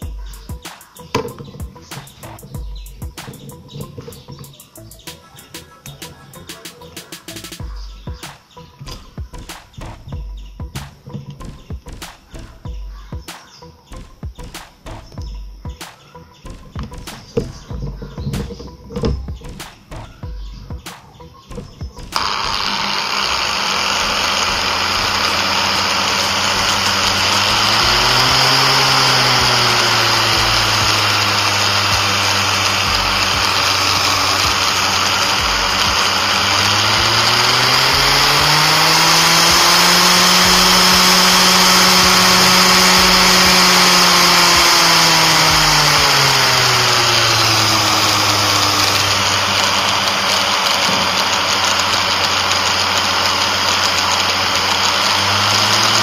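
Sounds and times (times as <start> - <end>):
angle grinder motor whine: 0.0 - 13.1, 15.0 - 56.0.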